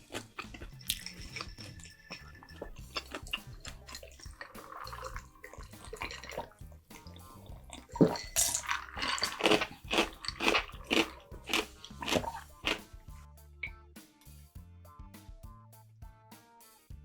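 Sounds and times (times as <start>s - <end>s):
wet chewing of food: 0.0s - 13.8s
faint background music: 0.0s - 17.0s.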